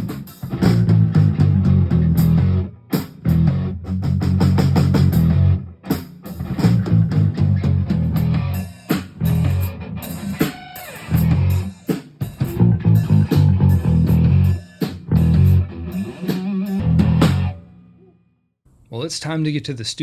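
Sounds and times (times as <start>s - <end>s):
heavy metal band playing: 0.0s - 17.6s.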